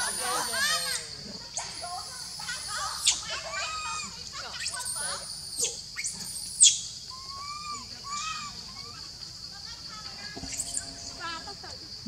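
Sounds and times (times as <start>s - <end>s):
young monkey squealing and cooing: 0.0s - 9.0s, 10.5s - 11.4s.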